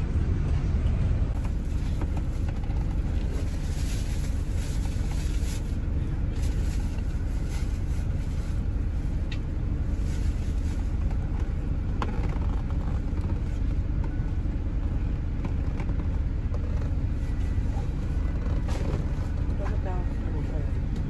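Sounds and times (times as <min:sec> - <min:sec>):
coach engine rumble inside cabin: 0:00.0 - 0:21.0.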